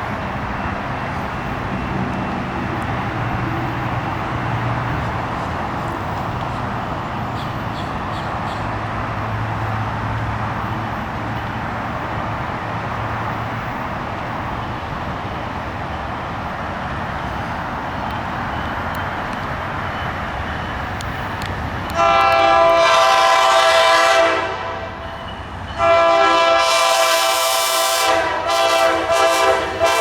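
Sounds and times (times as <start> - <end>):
train wheels on rails: 0.0 - 30.0.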